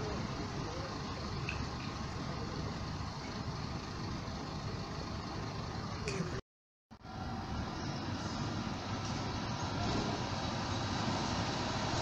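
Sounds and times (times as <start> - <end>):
bus diesel engine running: 0.0 - 6.4, 7.0 - 12.0.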